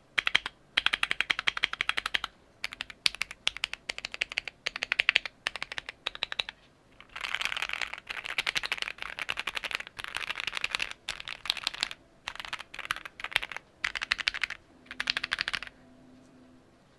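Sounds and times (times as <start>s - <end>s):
mechanical keyboard typing: 0.2s - 15.8s.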